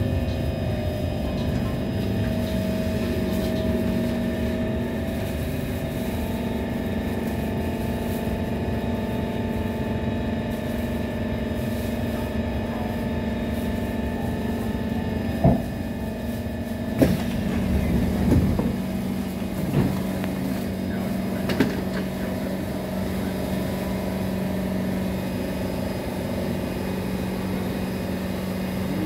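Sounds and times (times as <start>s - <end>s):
train carriage hum and whine: 0.0s - 29.0s.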